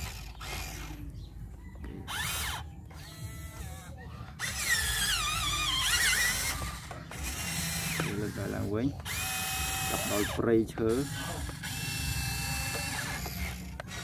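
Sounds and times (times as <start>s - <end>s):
toy excavator motors whining: 0.0s - 14.0s.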